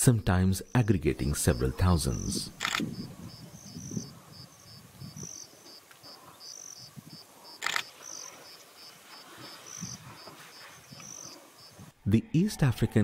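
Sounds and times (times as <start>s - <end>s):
insects chirping: 0.6s - 12.0s.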